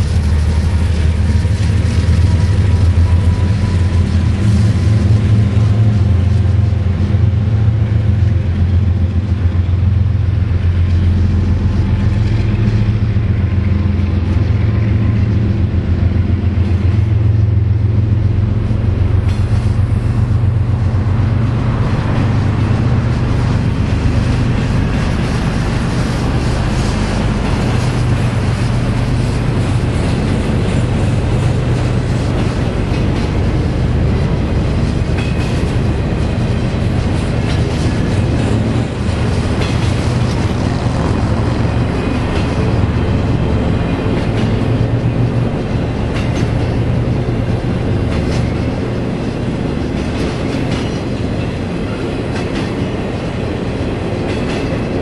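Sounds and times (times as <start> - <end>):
steady low hum: 0.0 - 52.3
freight train rumbling: 0.0 - 55.0.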